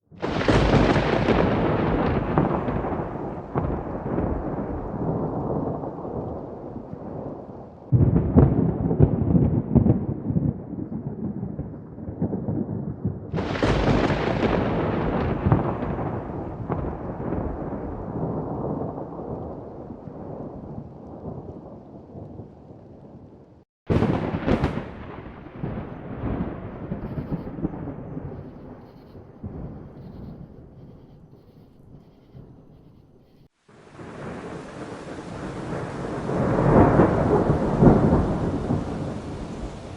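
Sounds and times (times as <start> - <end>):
thunder rumbling: 0.1 - 39.9.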